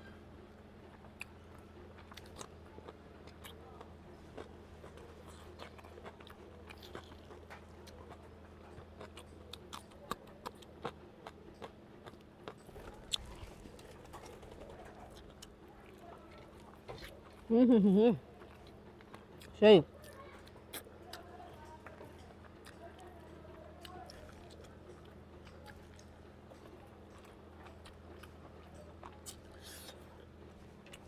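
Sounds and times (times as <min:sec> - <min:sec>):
man chewing food: 0:00.0 - 0:31.0.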